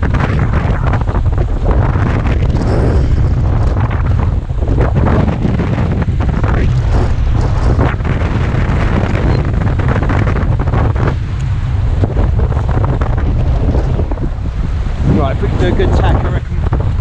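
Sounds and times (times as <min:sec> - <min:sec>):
water splashing along boat hull: 0:00.0 - 0:17.0
wind blowing across microphone: 0:00.0 - 0:17.0.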